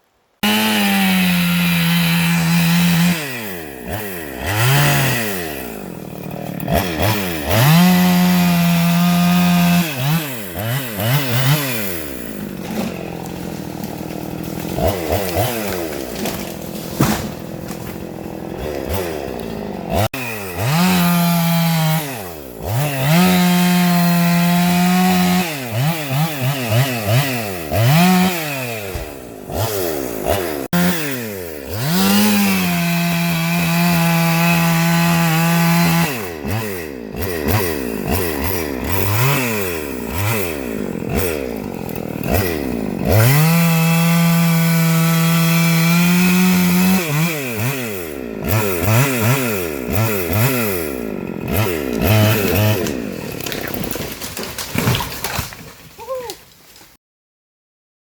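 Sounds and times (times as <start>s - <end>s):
chainsaw revving: 0.4s - 56.2s.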